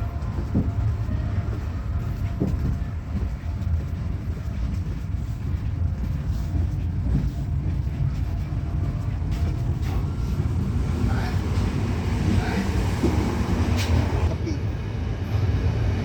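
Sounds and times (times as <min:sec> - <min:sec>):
train carriage rumbling on rails: 0:00.0 - 0:16.0.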